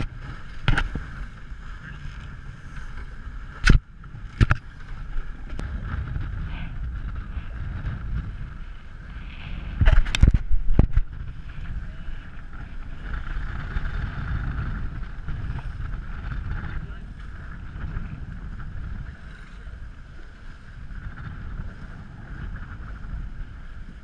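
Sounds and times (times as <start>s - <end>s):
water rushing past hull: 0.0s - 24.0s
wind buffeting microphone: 0.0s - 24.0s.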